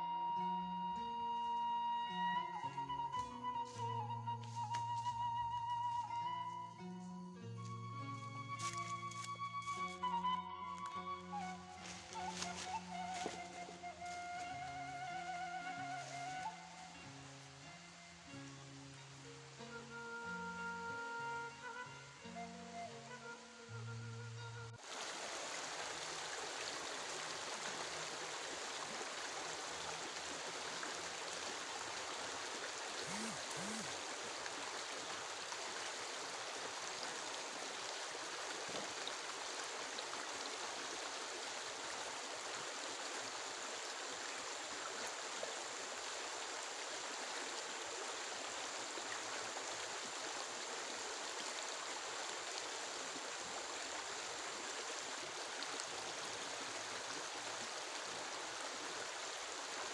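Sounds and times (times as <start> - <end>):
water rushing: 7.5 - 59.9.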